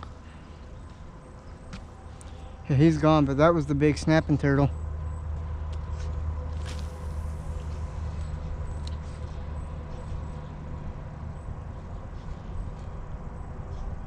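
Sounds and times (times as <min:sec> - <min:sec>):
faint constant whine: 0:00.0 - 0:14.0
low mechanical hum: 0:00.0 - 0:14.0.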